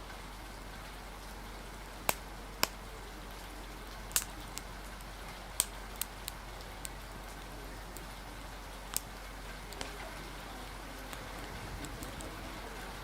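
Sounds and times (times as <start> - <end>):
rain hiss: 0.0 - 13.0
wood fire crackling: 0.0 - 13.0.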